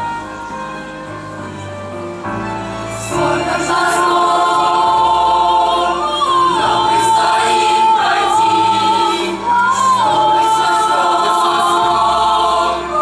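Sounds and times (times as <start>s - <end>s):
choir singing: 2.4s - 13.0s.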